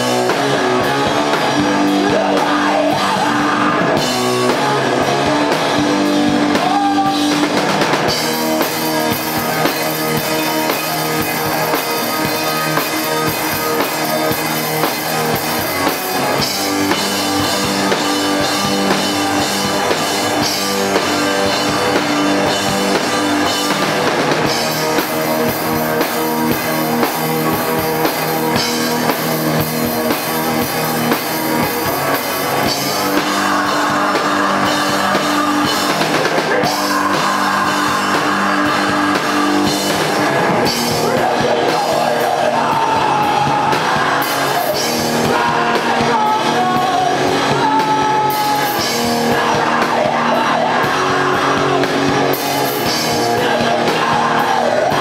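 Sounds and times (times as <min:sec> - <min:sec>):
drum kit steady beat: 0:00.0 - 0:55.0
electric guitars sustained chords: 0:00.0 - 0:55.0.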